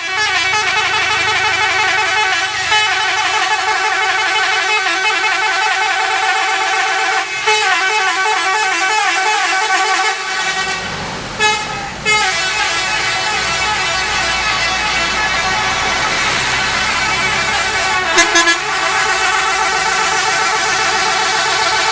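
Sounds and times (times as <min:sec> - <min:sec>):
bus musical horns playing melodies: 0:00.0 - 0:21.9
short loud horn blasts: 0:00.0 - 0:21.9.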